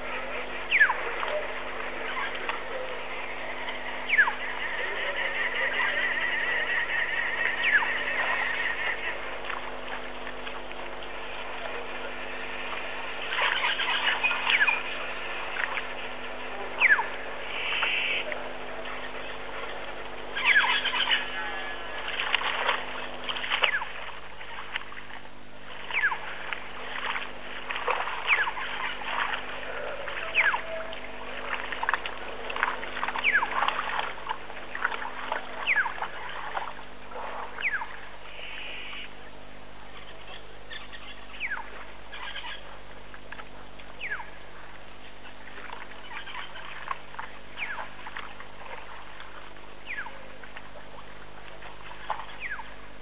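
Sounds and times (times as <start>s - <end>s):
birds chirping: 0.0s - 24.7s, 25.6s - 39.3s, 39.9s - 42.8s, 43.9s - 44.4s, 45.0s - 49.2s, 49.8s - 52.8s.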